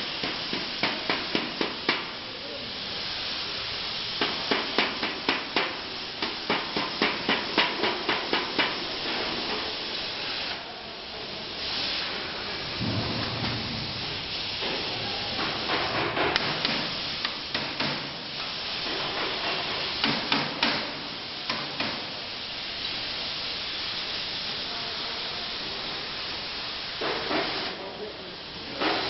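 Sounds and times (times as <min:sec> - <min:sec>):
plasma cutting machine hissing: 0:00.0 - 0:29.0.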